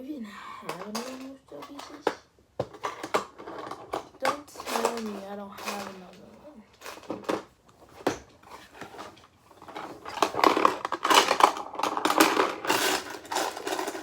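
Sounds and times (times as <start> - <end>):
small hard parts clattering: 0.6 - 14.0.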